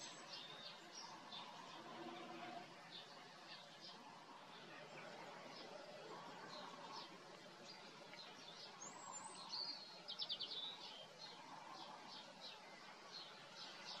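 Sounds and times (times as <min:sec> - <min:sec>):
small birds chirping: 0:00.0 - 0:01.8, 0:02.8 - 0:14.0
bird song phrase: 0:00.0 - 0:04.7, 0:06.4 - 0:14.0
steady low hiss: 0:00.0 - 0:14.0.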